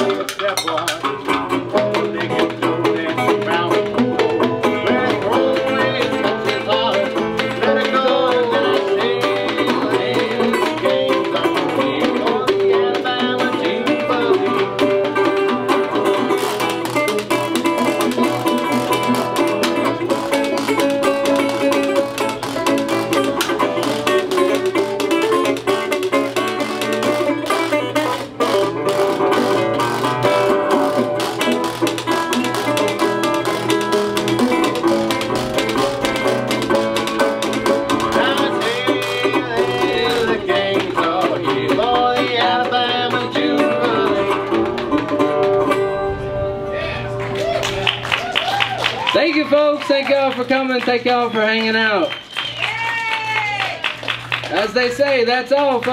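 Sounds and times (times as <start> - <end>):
banjo picking: 0.0 - 47.4
resonator guitar picking: 0.0 - 48.4.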